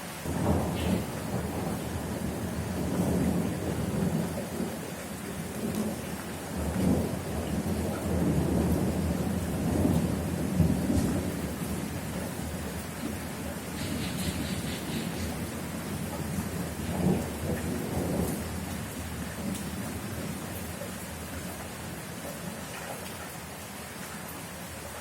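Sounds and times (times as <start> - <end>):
steady rain: 0.0 - 25.0
thunder rumbling: 0.2 - 20.5.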